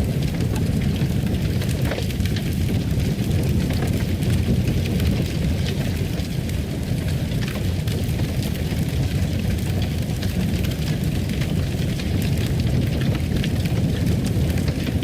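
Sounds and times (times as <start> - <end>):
fire low roar: 0.0 - 15.0
wood fire crackling and popping: 0.0 - 15.0.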